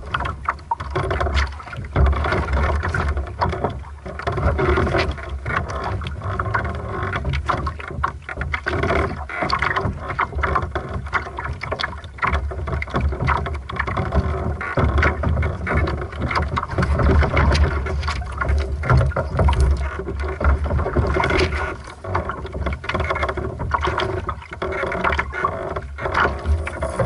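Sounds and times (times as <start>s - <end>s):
water slapping against hull: 0.0s - 27.0s.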